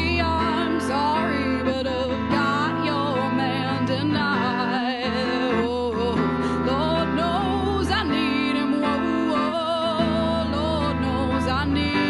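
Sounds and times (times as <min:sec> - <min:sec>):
guitar accompaniment: 0:00.0 - 0:12.0
woman singing with vibrato: 0:00.0 - 0:12.0.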